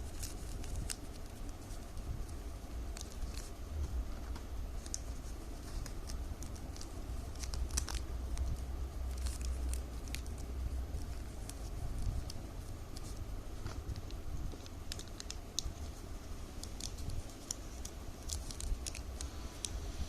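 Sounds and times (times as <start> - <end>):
plastic strips crinkling: 0.0 - 3.6, 4.2 - 19.9
steady low hum: 0.0 - 20.0.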